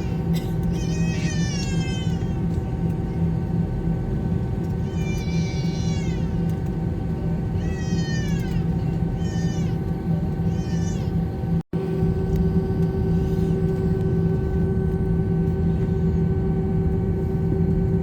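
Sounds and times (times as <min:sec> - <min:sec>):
airplane cabin hum: 0:00.0 - 0:18.0.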